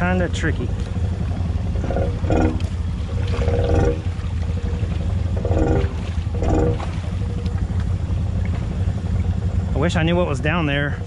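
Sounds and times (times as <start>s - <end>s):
atv engine revving in mud: 0.0s - 11.0s.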